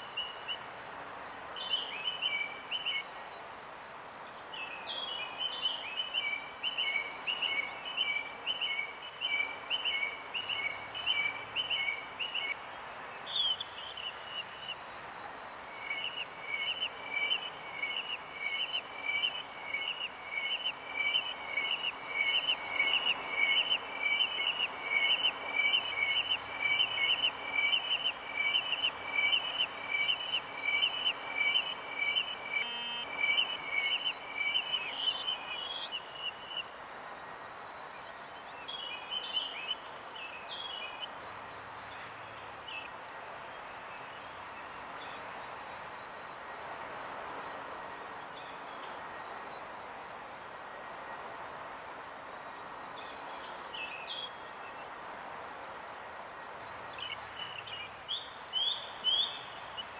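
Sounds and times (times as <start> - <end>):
cricket-like chirping: 0.0 - 59.9.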